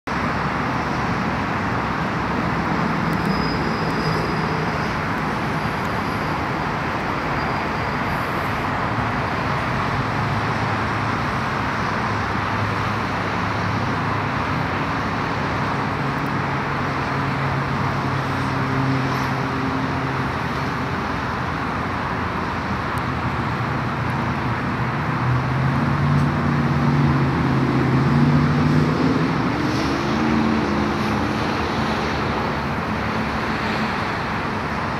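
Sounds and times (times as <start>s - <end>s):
road traffic rushing past: 0.1s - 34.9s.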